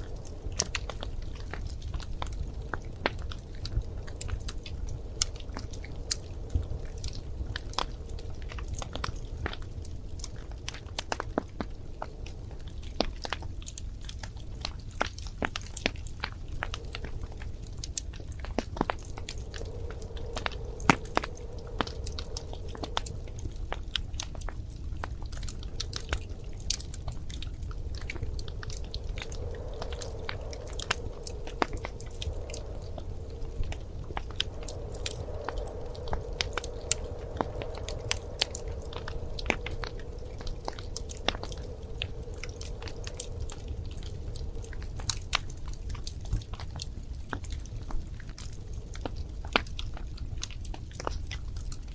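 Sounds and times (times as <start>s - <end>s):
low rumble of flames: 0.0s - 51.9s
soft fire hiss: 0.0s - 51.9s
wood fire crackling: 0.0s - 51.9s.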